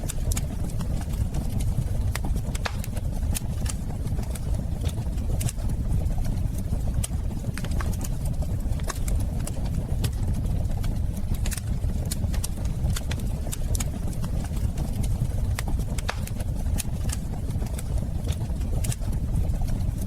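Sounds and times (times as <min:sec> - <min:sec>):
low rumble of burning: 0:00.0 - 0:20.0
wood fire crackling and popping: 0:00.0 - 0:20.0.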